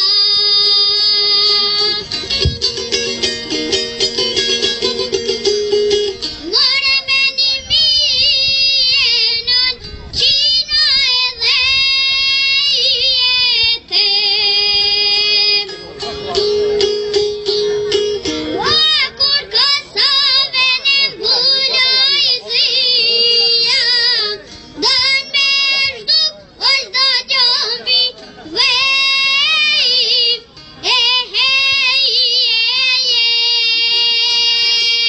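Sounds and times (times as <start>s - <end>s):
child singing with vibrato: 0.0s - 5.2s, 6.2s - 35.0s
fast plucked-string accompaniment: 0.0s - 35.0s.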